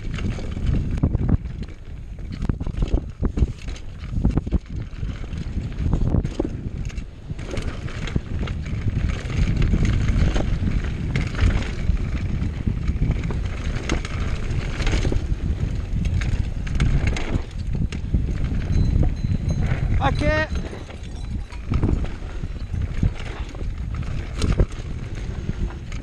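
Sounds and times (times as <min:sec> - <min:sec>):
bike rattling and knocking: 0:00.0 - 0:26.0
wind buffeting microphone: 0:00.0 - 0:26.0.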